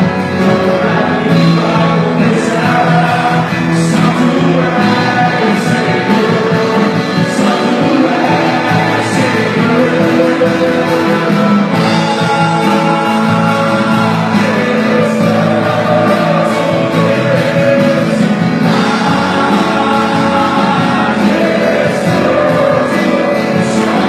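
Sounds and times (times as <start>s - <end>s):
band with guitar playing: 0.0s - 24.0s
voices singing: 0.0s - 24.0s.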